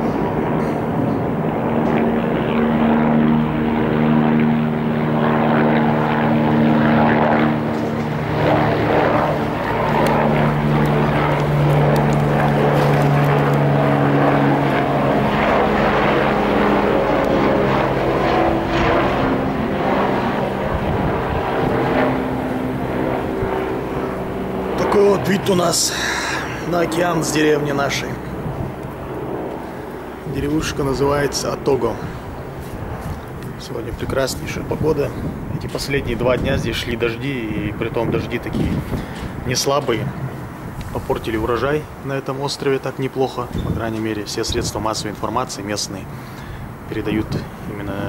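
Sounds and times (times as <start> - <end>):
airplane engine drone: 0.0 - 48.0.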